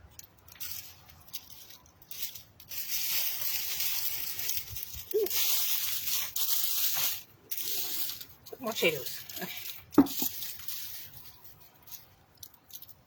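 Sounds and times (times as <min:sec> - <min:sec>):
digging and scraping soil: 0:00.4 - 0:13.0.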